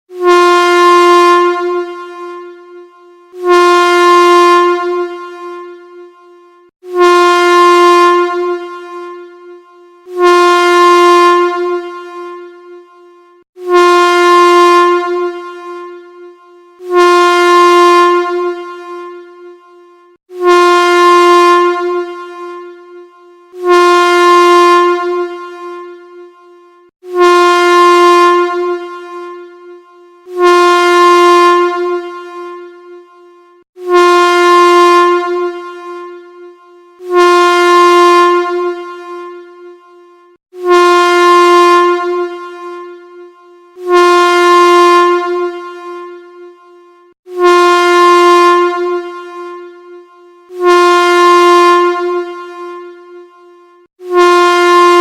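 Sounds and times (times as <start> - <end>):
train whistle blasts: 0.1 - 19.7, 20.3 - 26.4, 27.0 - 39.8, 40.5 - 46.7, 47.3 - 53.3, 54.0 - 55.0.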